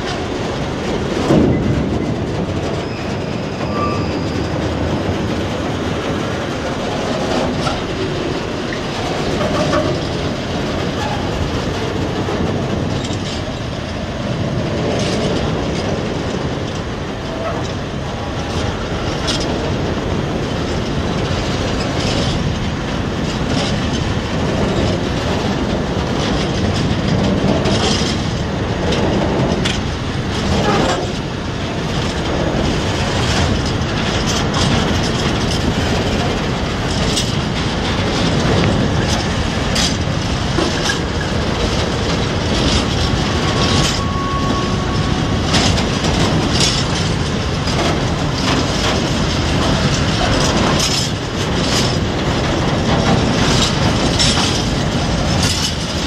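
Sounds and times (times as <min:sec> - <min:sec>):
train wheels rumbling: 0:00.0 - 0:56.0
wheels clacking over rail joints: 0:00.0 - 0:56.0.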